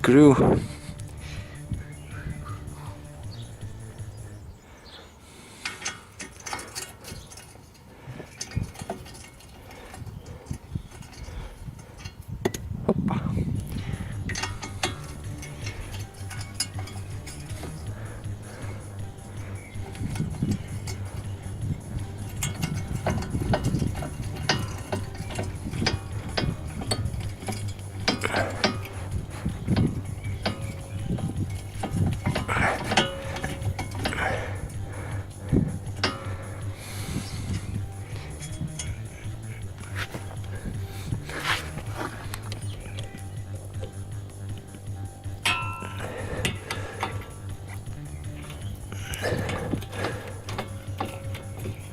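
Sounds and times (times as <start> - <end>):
hand tools clinking on metal: 0.0 - 12.7, 13.6 - 51.9
steady low hum: 0.0 - 51.9.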